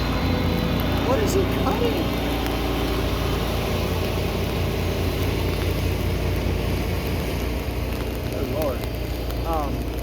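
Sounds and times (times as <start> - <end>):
mower engine running: 0.0 - 10.0.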